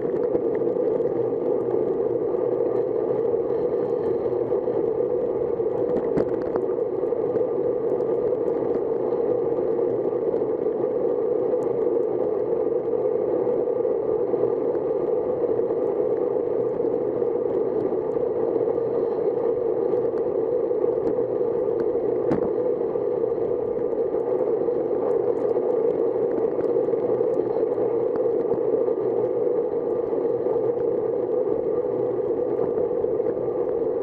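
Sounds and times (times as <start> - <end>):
wind over microphone: 0.0 - 34.0.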